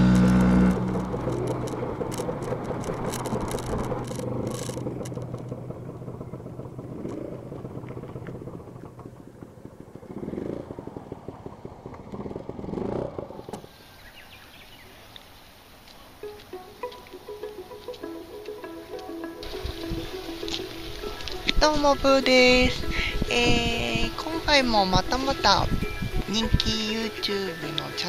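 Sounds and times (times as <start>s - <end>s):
scooter engine running: 0.0s - 13.7s, 16.4s - 28.0s
road and wind noise: 0.0s - 28.0s.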